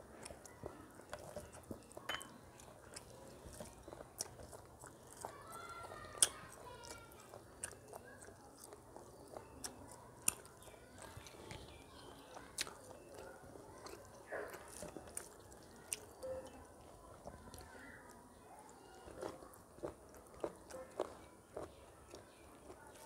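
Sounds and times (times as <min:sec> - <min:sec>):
chewing: 0:00.0 - 0:23.0.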